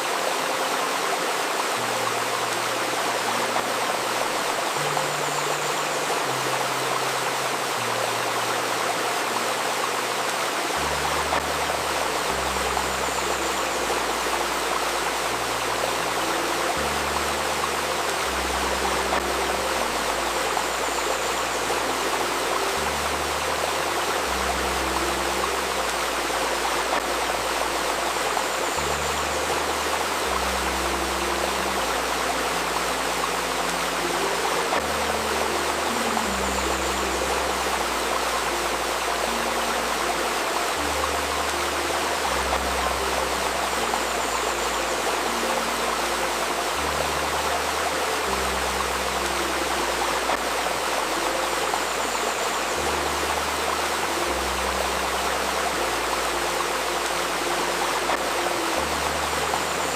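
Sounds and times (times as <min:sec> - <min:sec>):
babbling river water: 0:00.0 - 0:59.9
soft ambient music: 0:00.0 - 0:59.9.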